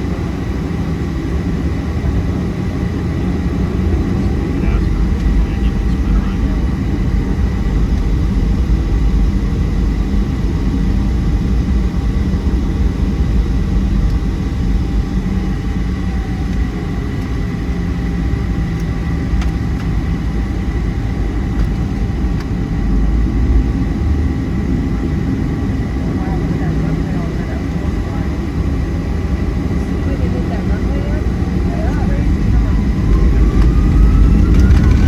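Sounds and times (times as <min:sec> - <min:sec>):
airplane cabin engine rumble: 0:00.0 - 0:35.0
thin steady whine: 0:00.0 - 0:35.0.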